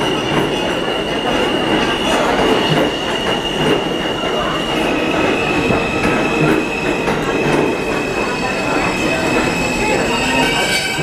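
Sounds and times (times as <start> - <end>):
train wheel squeal: 0.0 - 11.0
wheels clacking on rails: 0.0 - 11.0.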